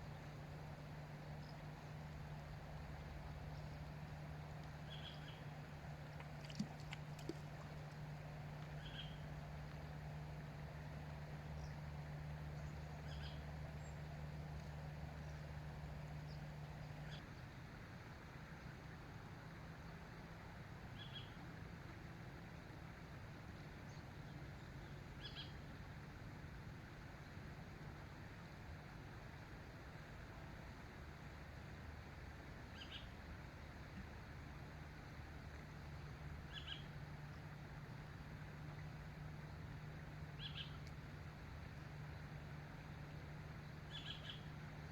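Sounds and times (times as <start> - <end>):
faint low rumble: 0.0 - 44.9.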